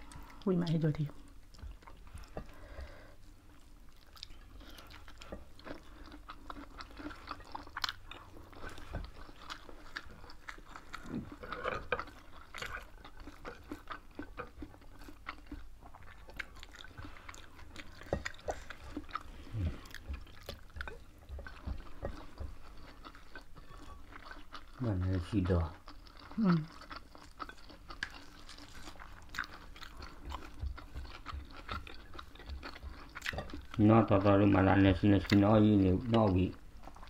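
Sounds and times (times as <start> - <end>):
people chewing food: 0.0 - 37.0.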